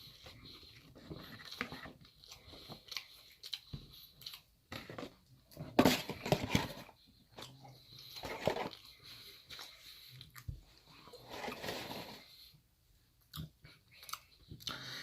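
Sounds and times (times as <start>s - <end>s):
person chewing and crunching food: 0.0s - 12.5s, 13.2s - 15.0s.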